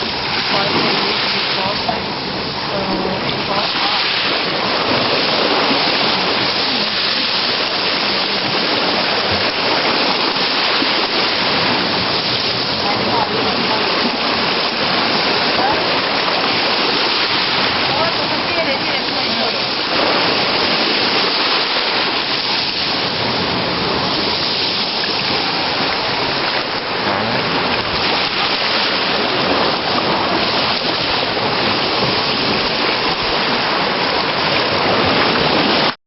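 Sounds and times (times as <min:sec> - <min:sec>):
running water rushing: 0:00.0 - 0:36.0.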